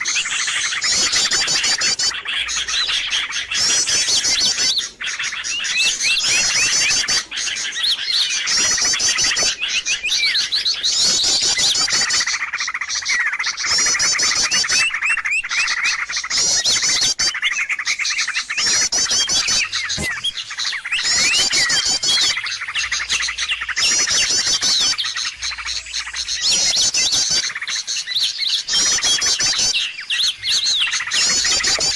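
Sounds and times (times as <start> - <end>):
small birds chirping chorus: 0.0 - 31.9.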